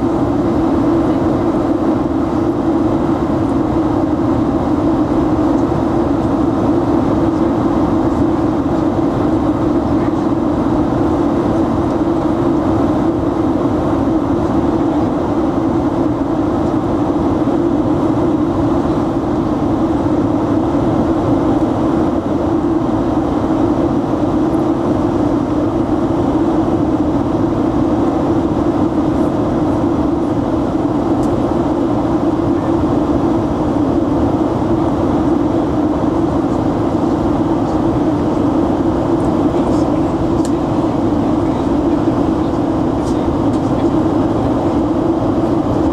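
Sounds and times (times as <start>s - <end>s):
jet engine drone in cabin: 0.0s - 45.9s.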